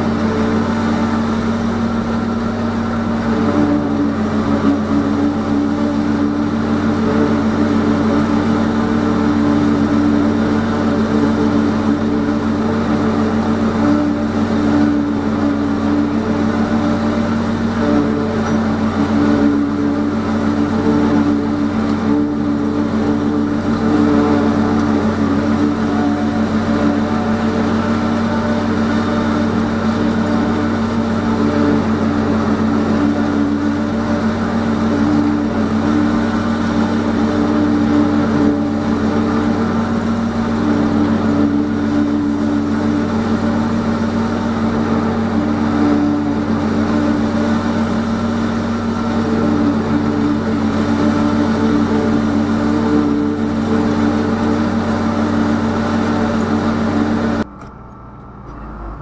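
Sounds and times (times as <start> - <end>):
forage harvester chopping corn: 0.0 - 57.8
tractor engine drone: 0.0 - 59.0.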